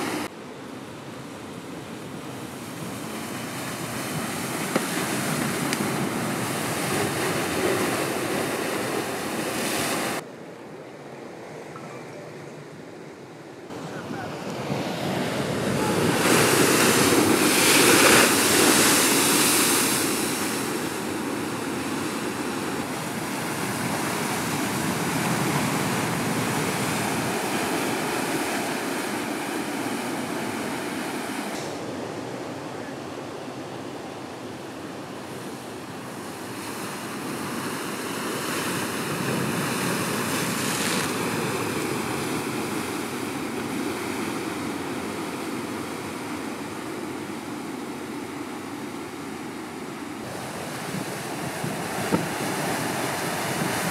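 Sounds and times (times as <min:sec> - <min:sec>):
ocean surf breaking on rocks: 0:00.0 - 0:10.3, 0:11.3 - 0:53.9.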